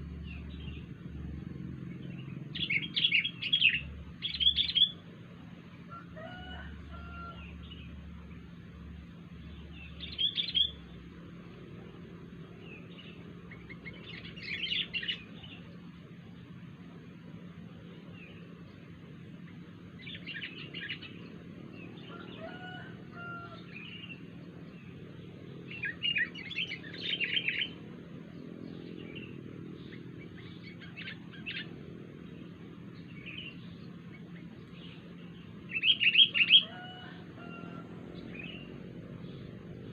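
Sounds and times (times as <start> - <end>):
bird chirping: 0.0 - 5.1, 5.9 - 39.9
steady low hum: 0.0 - 39.9.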